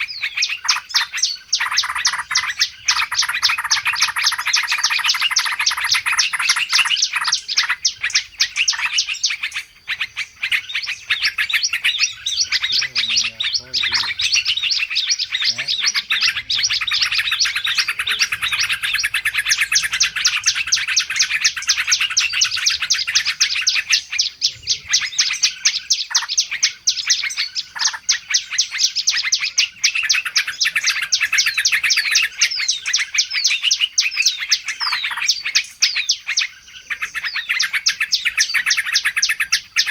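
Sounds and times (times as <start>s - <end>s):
small birds chirping rapidly: 0.0s - 39.9s.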